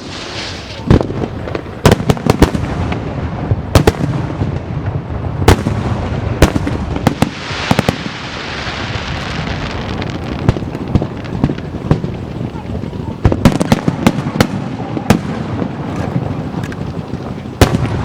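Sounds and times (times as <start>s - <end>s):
firework bangs: 0.0s - 18.0s
firework crackling: 0.0s - 18.0s.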